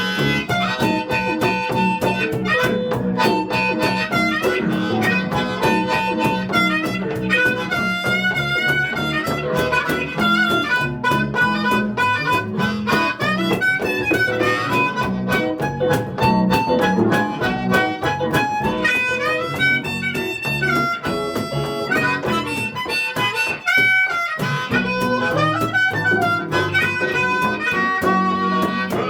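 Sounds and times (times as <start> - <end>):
blues harmonica: 0.0 - 29.0
rhythmic guitar accompaniment: 0.0 - 29.0.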